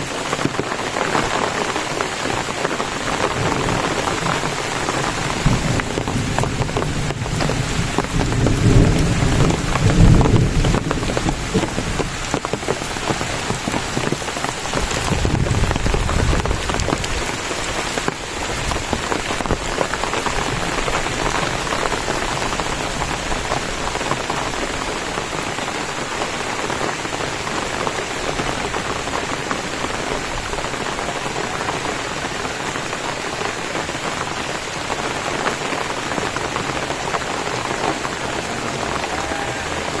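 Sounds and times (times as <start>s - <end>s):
heavy rain pouring: 0.0s - 40.0s
thunder rumbling: 0.4s - 32.8s.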